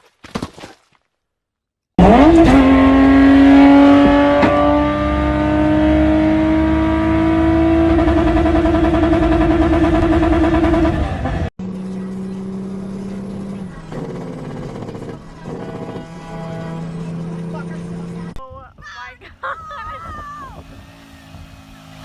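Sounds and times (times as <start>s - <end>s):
vehicle engine accelerating: 2.0s - 18.4s, 20.5s - 22.0s.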